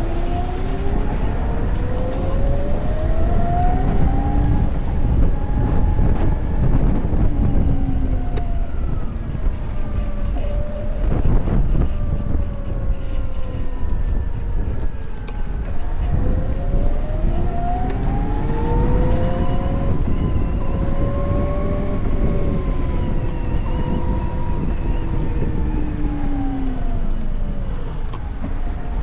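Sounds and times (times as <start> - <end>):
electric motorcycle motor whine: 0.0 - 29.0
wind and road noise: 0.0 - 29.0.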